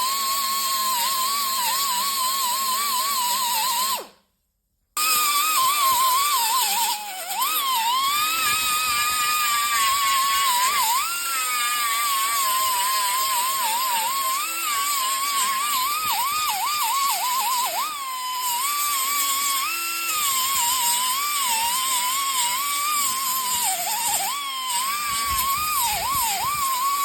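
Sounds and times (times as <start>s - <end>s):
power grinder whining on metal: 0.0s - 4.2s, 5.0s - 27.0s.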